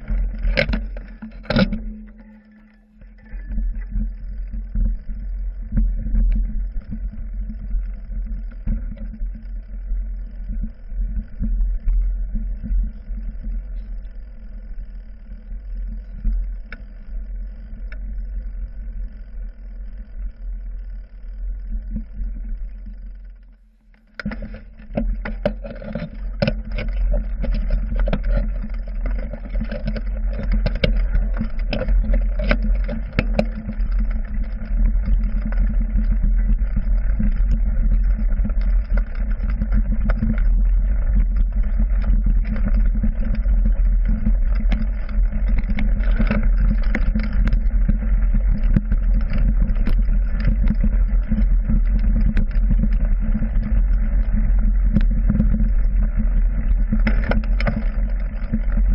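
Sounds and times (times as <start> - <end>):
bike rattles and knocks: 0.0 - 13.1, 22.6 - 58.9
bike tyres rumbling on dirt: 0.0 - 23.6, 24.2 - 58.9.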